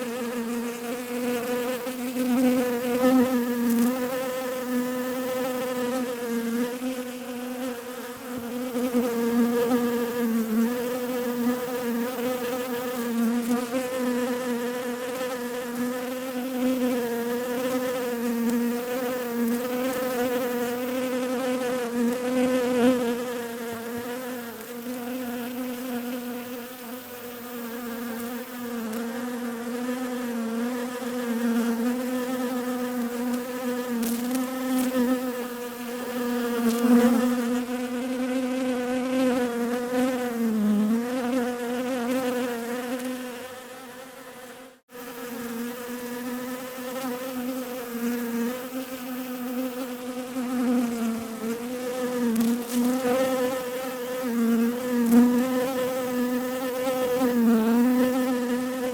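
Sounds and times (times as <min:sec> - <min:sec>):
bees buzzing: 0:00.0 - 0:58.9.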